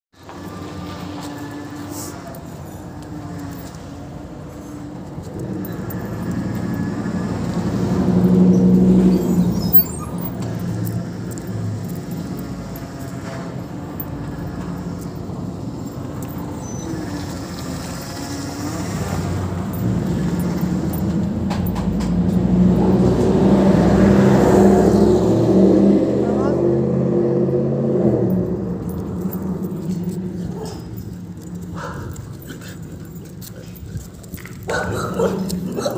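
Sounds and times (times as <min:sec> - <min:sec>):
vehicles passing on street: 0:00.1 - 0:35.9.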